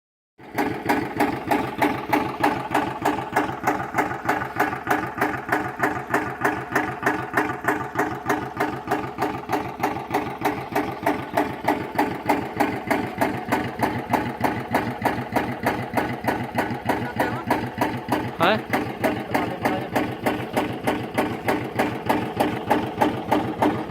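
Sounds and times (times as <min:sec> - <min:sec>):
engine knocking steadily: 0:00.4 - 0:23.9.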